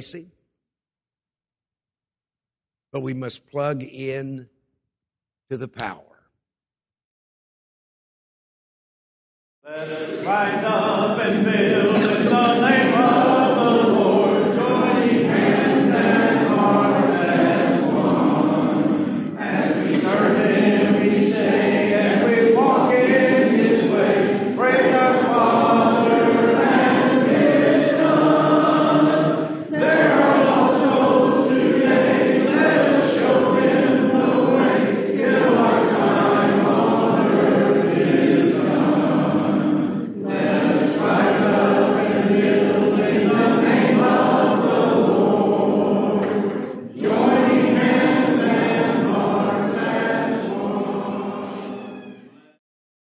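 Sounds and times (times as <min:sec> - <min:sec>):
congregation singing a hymn: 0:09.7 - 0:52.3.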